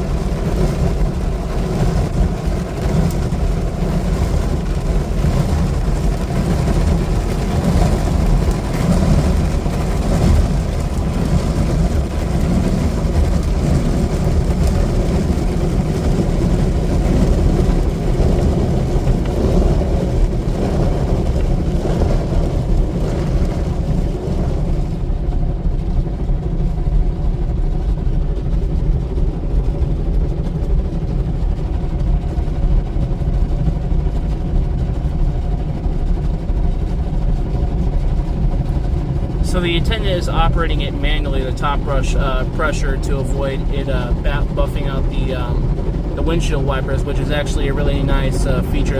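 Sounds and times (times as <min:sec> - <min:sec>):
car wash brushes rumbling and whirring: 0:00.0 - 0:48.9.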